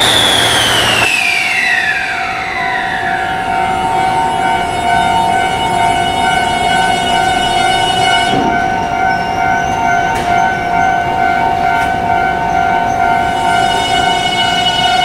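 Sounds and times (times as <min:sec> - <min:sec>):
electric train rumbling: 0:00.0 - 0:15.0
electronic warning tone: 0:00.0 - 0:15.0.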